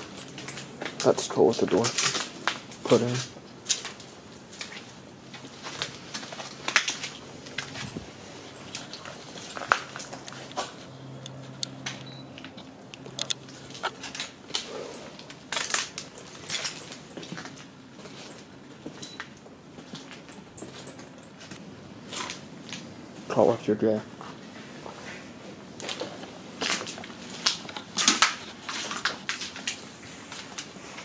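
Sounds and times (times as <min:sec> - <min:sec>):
footsteps crunching over debris: 0:00.0 - 0:12.7, 0:13.4 - 0:23.3, 0:24.1 - 0:31.0.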